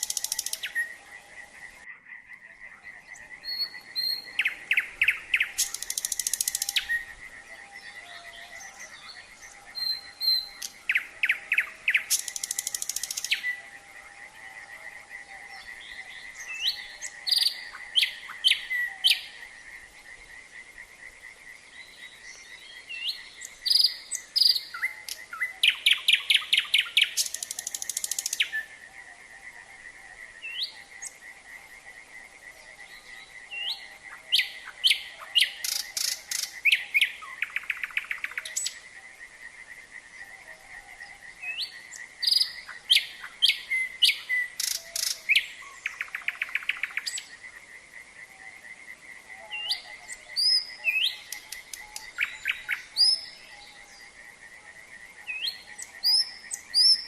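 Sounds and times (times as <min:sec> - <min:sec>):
frog chorus drone: 0:00.0 - 0:57.0
nightingale singing: 0:00.0 - 0:57.0.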